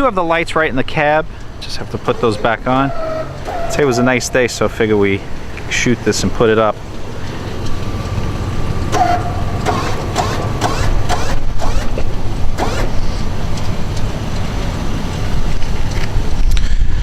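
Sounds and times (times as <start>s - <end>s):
engine idling: 1.0s - 17.0s.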